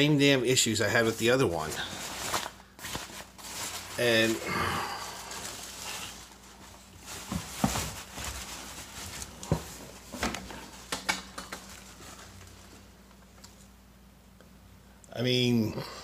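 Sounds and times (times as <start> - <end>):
plastic packaging rustling: 0.8 - 13.6.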